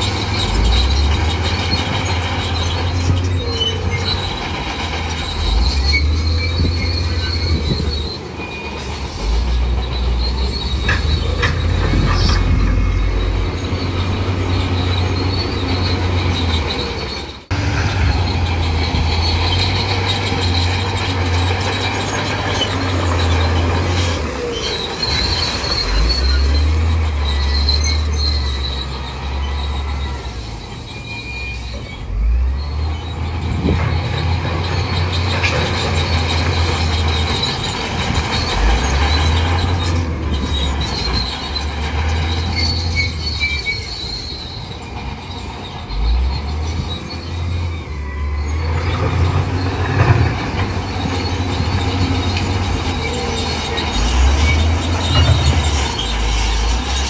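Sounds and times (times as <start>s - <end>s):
bulldozer diesel engine drone: 0.0s - 57.0s
metallic squealing tracks: 0.0s - 57.0s.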